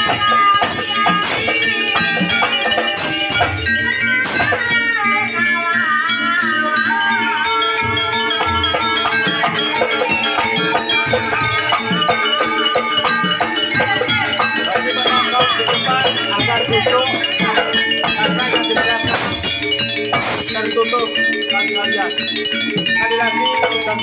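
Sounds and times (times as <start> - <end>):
gamelan ensemble music: 0.0 - 24.0
rattling percussion: 0.0 - 24.0.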